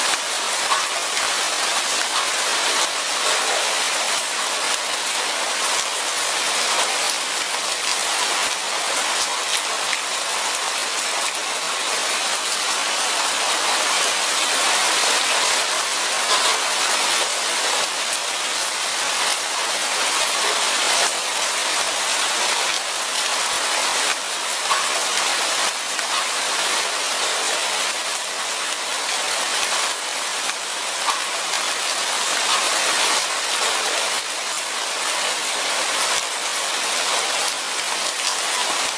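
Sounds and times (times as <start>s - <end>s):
light rain pattering: 0.0s - 38.9s.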